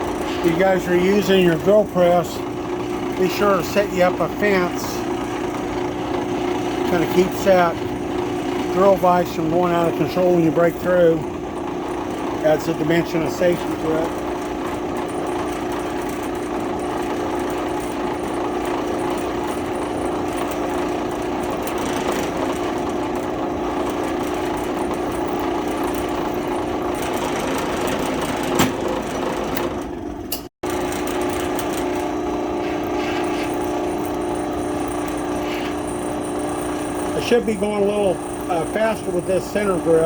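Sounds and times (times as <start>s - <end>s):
drill press motor running: 0.0s - 40.0s
drill bit cutting: 2.3s - 29.0s, 30.7s - 40.0s.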